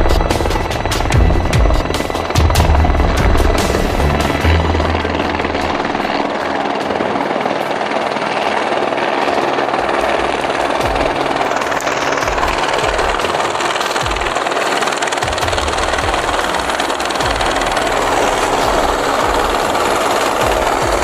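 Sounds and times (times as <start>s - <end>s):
helicopter rotor pulsing: 0.0s - 21.0s
steady rushing noise: 0.0s - 21.0s.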